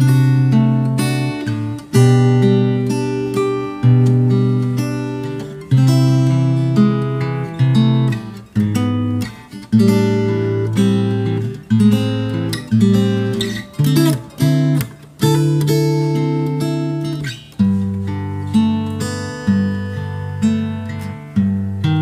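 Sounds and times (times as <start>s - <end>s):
acoustic guitar chords strummed: 0.0s - 22.0s.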